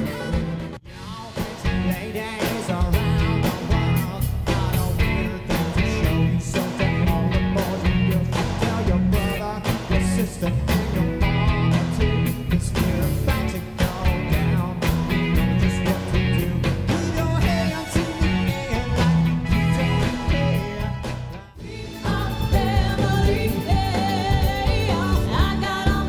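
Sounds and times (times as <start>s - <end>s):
disco-funk band playing: 0.0s - 26.0s
lead singer singing: 0.0s - 26.0s.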